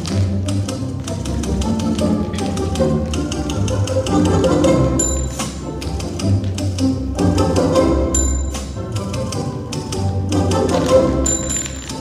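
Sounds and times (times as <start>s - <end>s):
orchestral music with strings: 0.0s - 12.0s.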